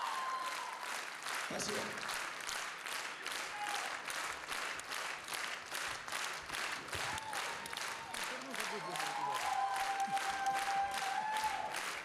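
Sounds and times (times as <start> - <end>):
audience clapping in rhythm: 0.0 - 12.0.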